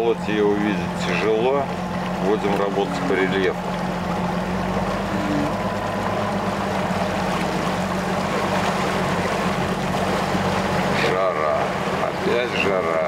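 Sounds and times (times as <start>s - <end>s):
motorboat engine humming: 0.0s - 13.0s
rush of wind and water: 0.0s - 13.0s.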